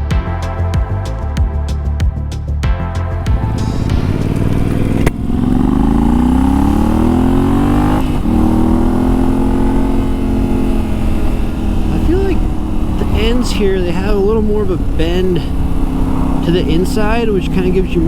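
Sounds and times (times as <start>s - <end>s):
motorcycle engine accelerating: 2.8s - 18.0s.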